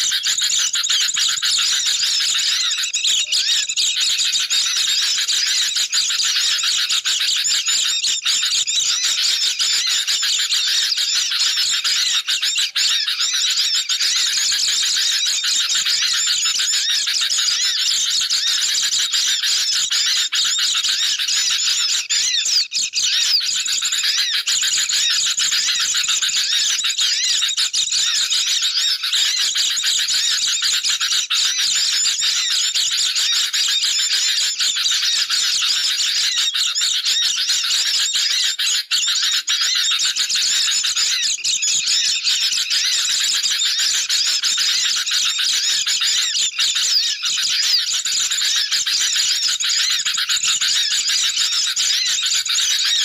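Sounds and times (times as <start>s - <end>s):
birds chattering: 0.0s - 53.0s.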